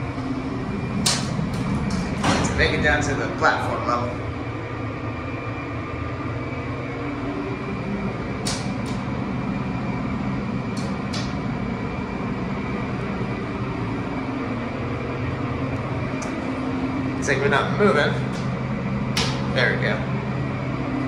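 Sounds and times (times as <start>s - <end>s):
elevator mechanical hum: 0.0s - 21.0s.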